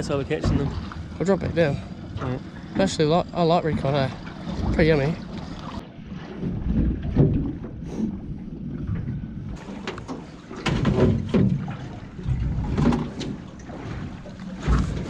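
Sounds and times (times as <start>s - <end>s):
water slaps: 0.0s - 7.8s, 8.9s - 15.0s
water lapping against hull: 0.0s - 15.0s.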